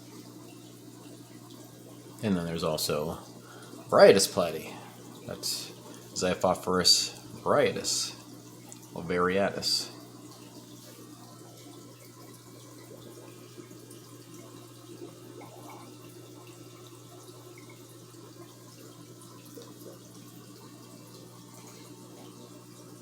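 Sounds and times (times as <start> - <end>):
low equipment hum: 0.0 - 23.0
water trickling and splashing: 0.0 - 23.0.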